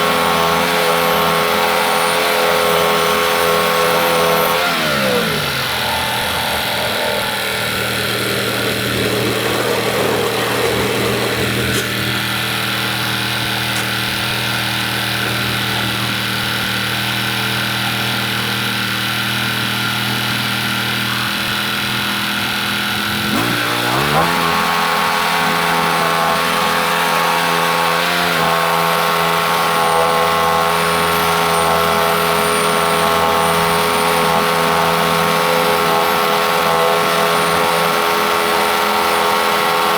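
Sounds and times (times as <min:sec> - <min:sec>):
gas engine running: 0:00.0 - 0:39.9.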